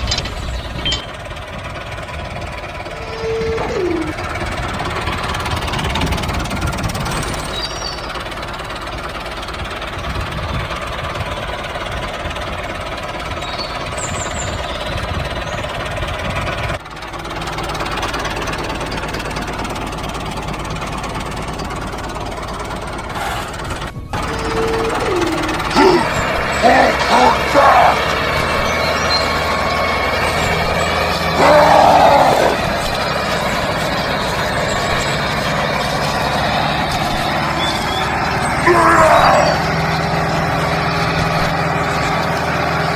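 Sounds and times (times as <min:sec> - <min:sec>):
small tractor engine chugging: 0:00.0 - 0:42.9.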